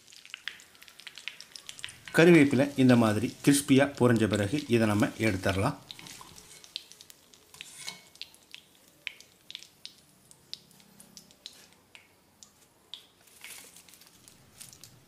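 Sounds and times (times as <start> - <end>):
frying in oil with pops: 0.0 - 15.0.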